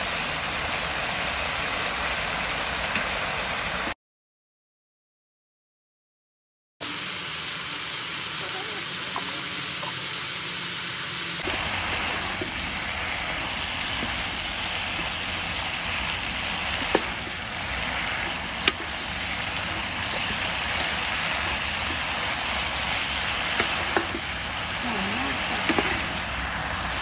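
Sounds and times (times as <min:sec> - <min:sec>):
food sizzling in a hot pan: 0:00.0 - 0:04.0, 0:06.8 - 0:27.0.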